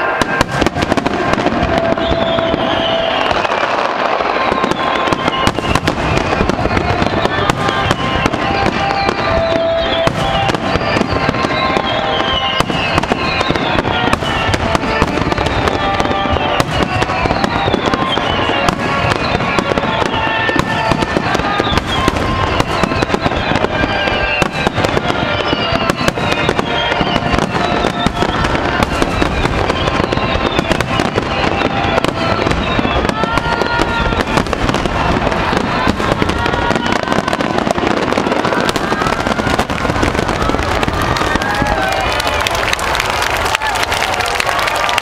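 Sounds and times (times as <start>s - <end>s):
fireworks bursting and crackling: 0.0s - 45.0s
fireworks whistling: 0.0s - 45.0s.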